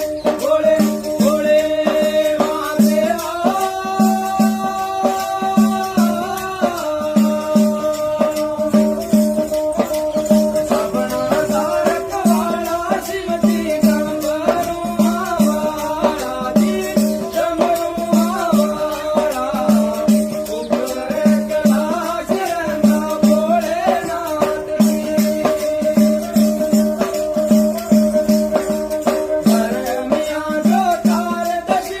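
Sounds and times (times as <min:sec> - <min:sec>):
devotional song: 0:00.0 - 0:32.0
sharp percussion strokes: 0:00.0 - 0:32.0
steady repeating drum beat: 0:00.0 - 0:32.0.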